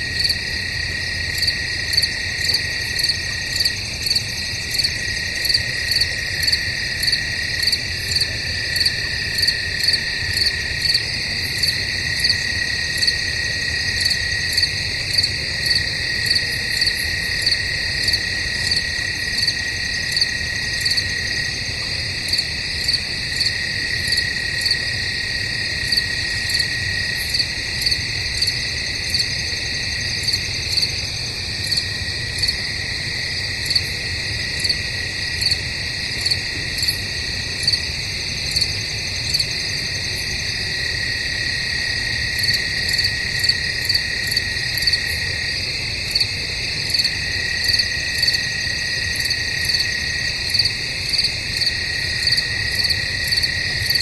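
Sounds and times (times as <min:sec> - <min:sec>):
crickets trilling: 0:00.0 - 0:54.0
loud cricket chirp: 0:00.0 - 0:54.0.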